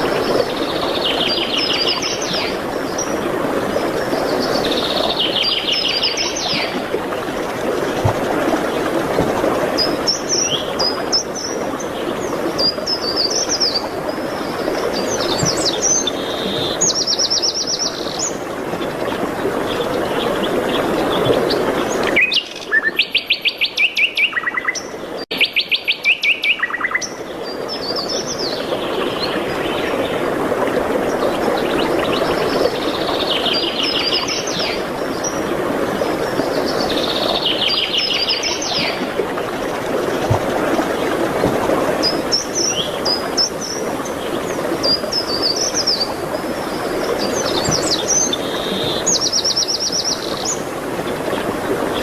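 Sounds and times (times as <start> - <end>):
songbirds chirping and warbling: 0.0 - 52.0.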